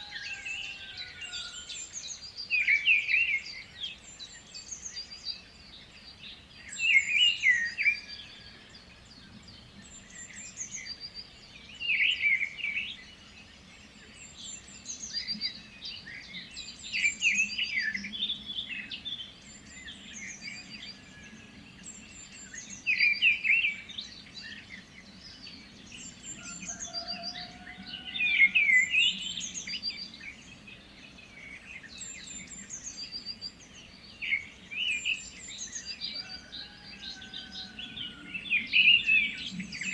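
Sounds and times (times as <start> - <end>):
bird song phrase: 0.0 - 39.9.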